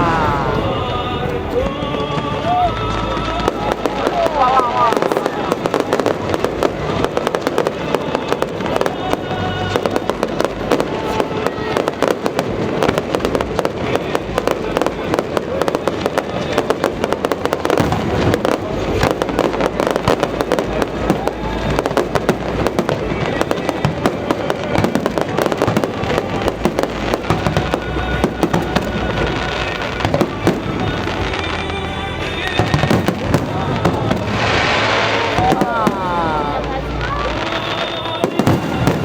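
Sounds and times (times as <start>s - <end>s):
fireworks bangs and crackles: 0.0s - 39.0s
music playing: 0.0s - 39.0s.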